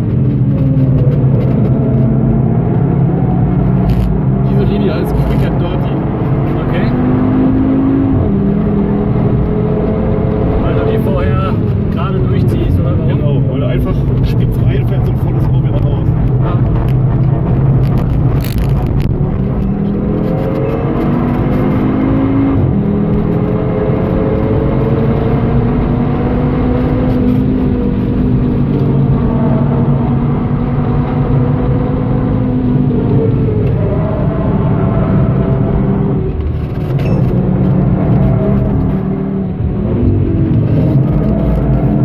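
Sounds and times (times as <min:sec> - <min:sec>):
car engine revving hard: 0:00.0 - 0:42.0.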